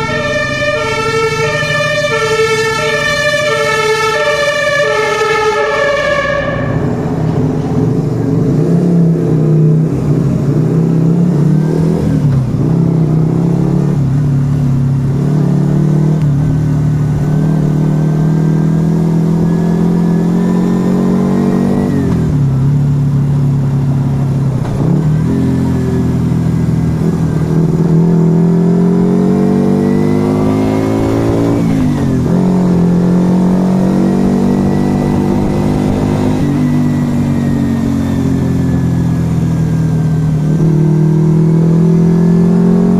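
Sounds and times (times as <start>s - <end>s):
motorcycle engine under load: 0.0s - 42.9s.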